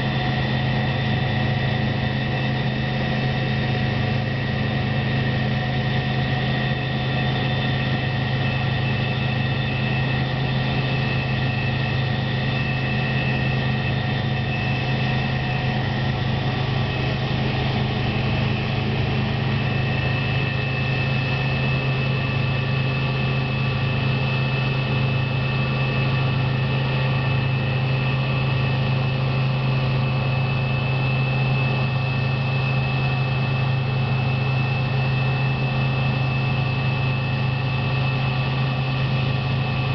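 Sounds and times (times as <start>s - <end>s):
combine harvester engine drone: 0.0s - 39.9s
steady high whine: 0.0s - 39.9s.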